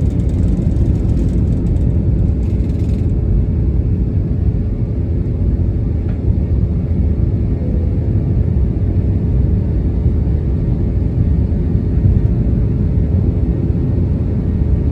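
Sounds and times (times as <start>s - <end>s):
jet engines low rumble: 0.0s - 14.9s.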